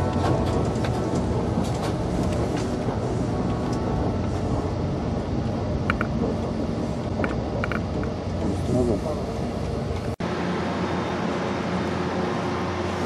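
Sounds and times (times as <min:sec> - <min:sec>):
train rumbling inside car: 0:00.0 - 0:13.0.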